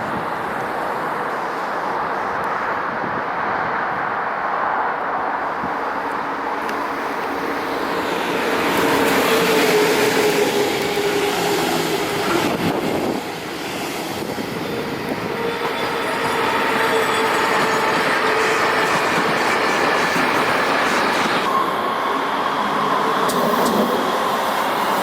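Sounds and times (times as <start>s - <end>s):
train rail rumble: 0.0s - 25.0s.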